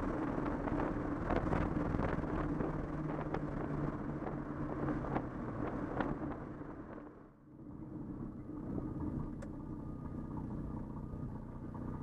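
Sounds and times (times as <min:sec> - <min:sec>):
rotary engine droning: 0:00.0 - 0:12.0.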